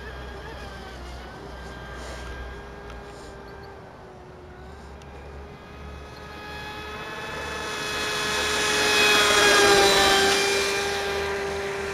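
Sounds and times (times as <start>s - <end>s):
toy boat motor whining: 0.0s - 11.9s.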